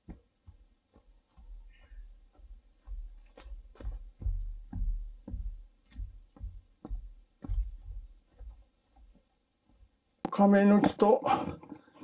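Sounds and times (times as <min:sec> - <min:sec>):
heavy footsteps on trail: 0:00.0 - 0:11.4.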